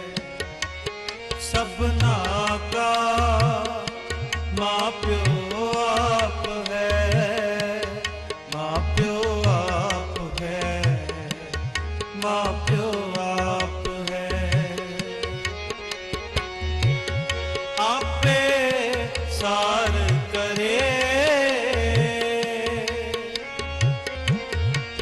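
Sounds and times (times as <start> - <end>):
tabla playing busy rhythm: 0.0 - 25.0.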